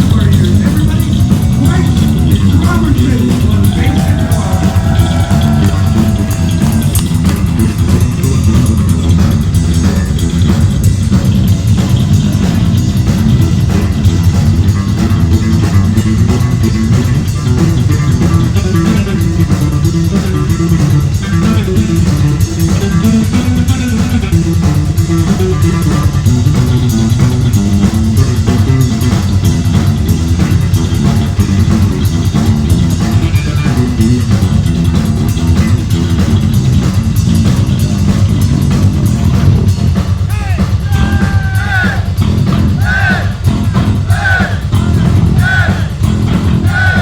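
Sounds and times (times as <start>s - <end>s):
bass guitar: 0.0s - 47.0s
drum kit: 0.0s - 47.0s
electric guitar: 0.0s - 47.0s.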